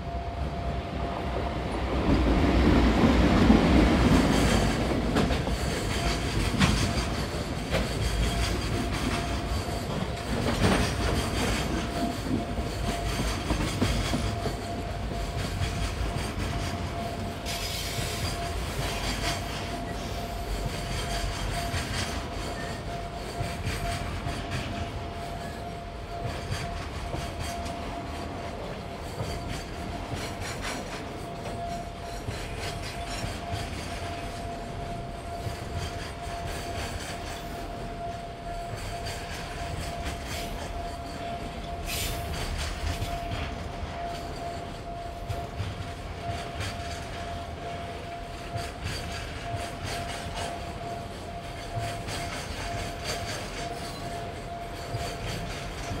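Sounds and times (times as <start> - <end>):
electric locomotive passing: 0.0 - 56.0
steady high tone: 0.0 - 56.0
train wagons rumbling: 0.0 - 56.0
wheels clacking over rail joints: 1.3 - 56.0.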